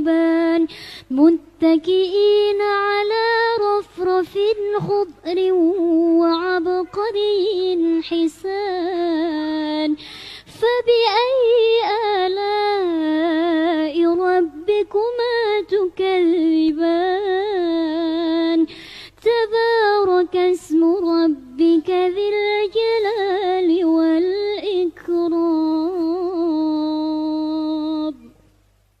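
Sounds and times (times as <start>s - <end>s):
girl chanting melodically: 0.0s - 28.3s.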